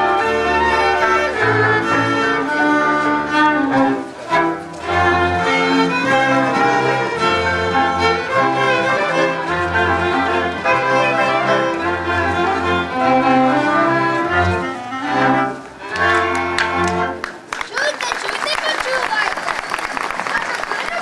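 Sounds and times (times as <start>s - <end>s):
double bass long notes: 0.0s - 17.2s
fiddles playing dance tune: 0.0s - 21.0s.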